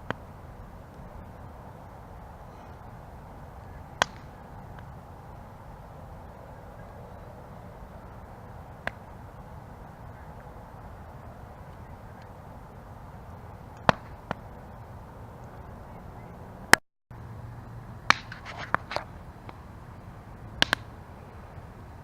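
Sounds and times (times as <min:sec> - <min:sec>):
campfire crackling and popping: 0:00.0 - 0:16.8, 0:18.0 - 0:21.2.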